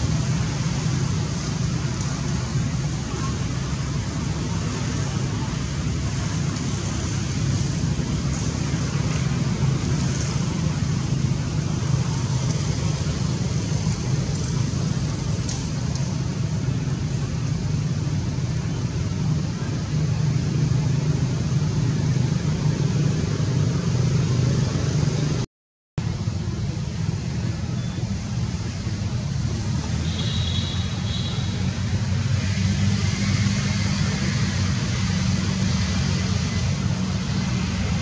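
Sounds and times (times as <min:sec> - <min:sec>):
outdoor rumble and hiss: 0:00.0 - 0:38.0.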